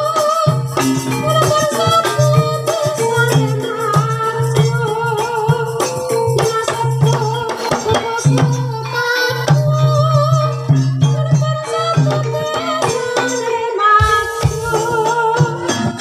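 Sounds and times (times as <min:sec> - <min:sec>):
gamelan drumming and metal percussion: 0:00.0 - 0:16.0
person singing: 0:00.0 - 0:16.0.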